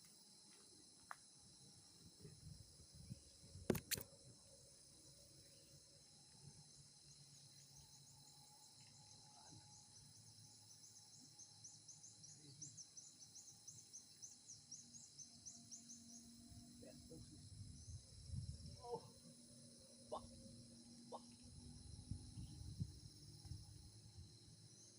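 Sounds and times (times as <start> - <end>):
insect chorus drone: 0.0 - 24.9.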